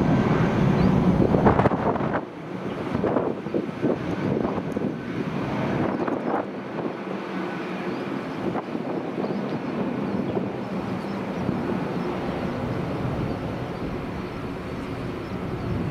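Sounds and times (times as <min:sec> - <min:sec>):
jet engines rushing: 0:00.0 - 0:15.9
wind buffeting microphone: 0:00.0 - 0:15.9.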